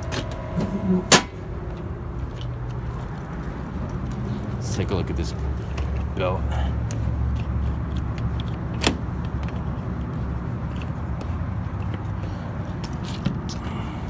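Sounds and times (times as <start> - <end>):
air conditioning unit humming: 0.0 - 14.0.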